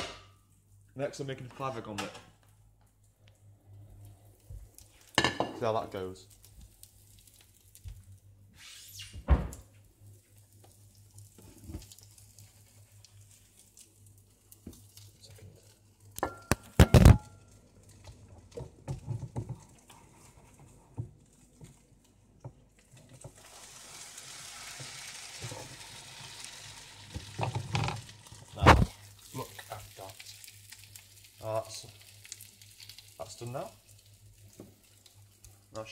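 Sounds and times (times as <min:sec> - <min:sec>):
egg sizzling in a pan: 0:03.8 - 0:08.2, 0:10.0 - 0:35.9.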